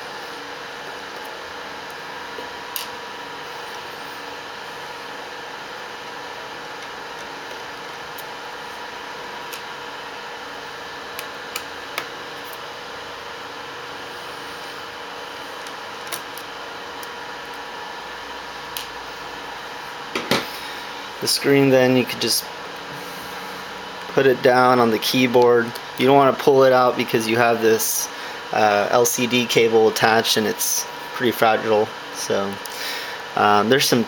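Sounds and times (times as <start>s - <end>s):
faint hum: 0.0s - 34.0s.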